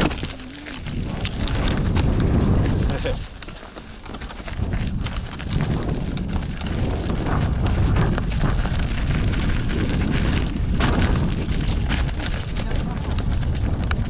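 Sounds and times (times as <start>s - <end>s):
steady low rumble: 0.0s - 14.0s
wind buffeting microphone: 0.0s - 14.0s.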